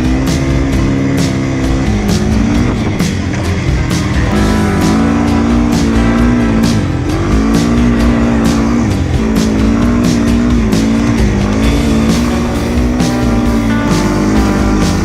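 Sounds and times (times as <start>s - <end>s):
engine revving: 0.0s - 15.0s
rock music with drum beat: 0.0s - 15.0s.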